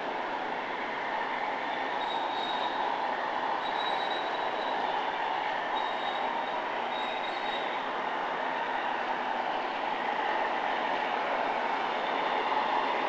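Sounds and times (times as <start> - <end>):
model train whirring rumble: 0.0 - 13.0.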